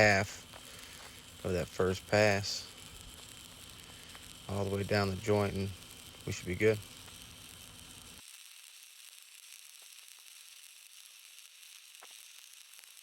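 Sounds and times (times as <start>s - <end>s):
sharp crackling pops: 0.0s - 13.0s
welding arc sizzling: 0.0s - 13.0s.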